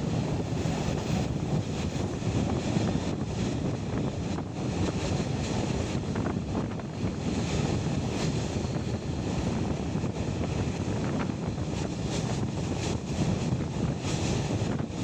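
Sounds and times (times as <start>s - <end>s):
train coach rumbling on track: 0.0s - 15.0s
wind rushing over microphone: 0.0s - 15.0s.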